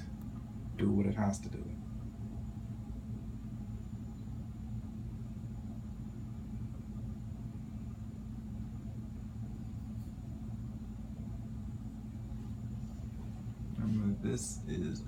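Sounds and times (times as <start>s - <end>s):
laser printer humming: 0.0s - 15.0s.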